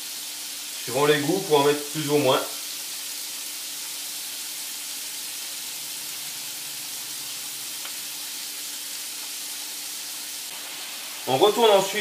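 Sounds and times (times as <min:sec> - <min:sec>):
scallops sizzling in butter: 0:00.0 - 0:12.0.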